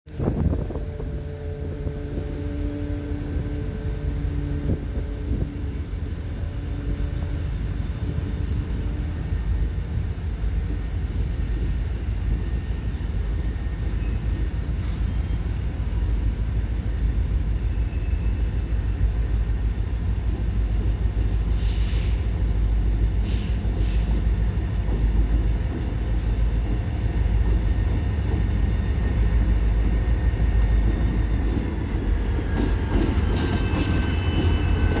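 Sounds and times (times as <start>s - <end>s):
train engine tone: 0.1s - 35.0s
train rumbling: 0.1s - 35.0s.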